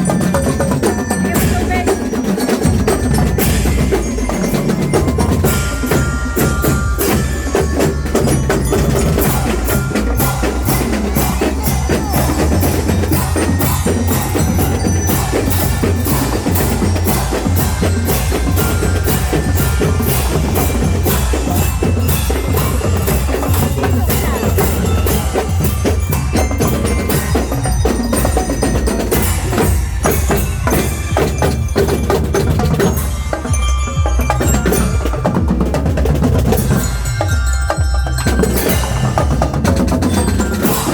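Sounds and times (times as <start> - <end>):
bell-lyre melody: 0.0 - 40.9
fast steady drumbeat: 0.0 - 40.9.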